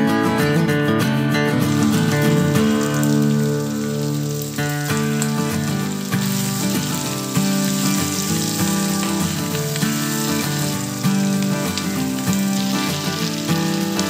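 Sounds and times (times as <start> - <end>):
background music: 0.0 - 14.0
meat sizzling in a pan: 1.6 - 14.0.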